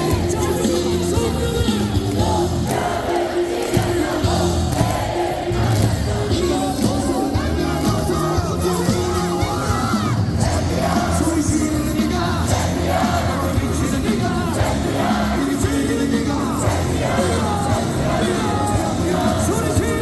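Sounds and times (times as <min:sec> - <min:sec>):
crowd singing in unison: 0:00.0 - 0:20.0
music over loudspeakers: 0:00.0 - 0:20.0
people yelling: 0:00.0 - 0:20.0.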